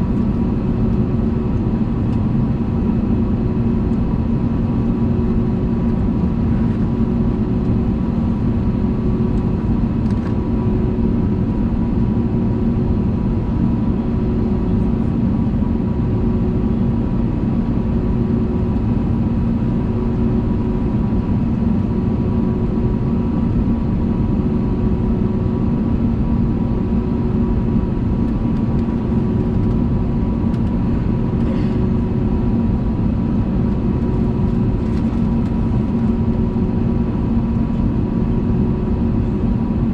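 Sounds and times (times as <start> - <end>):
airplane cabin engine drone: 0.0 - 39.9
constant low hum: 0.0 - 39.9.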